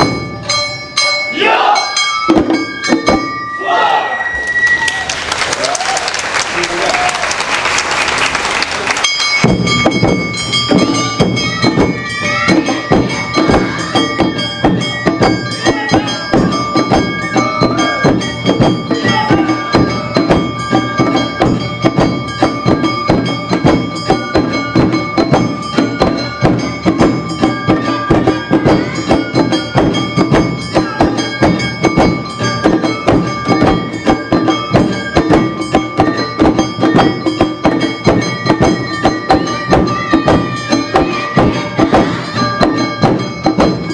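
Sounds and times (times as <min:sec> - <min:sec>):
festival band music: 0:00.0 - 0:43.9.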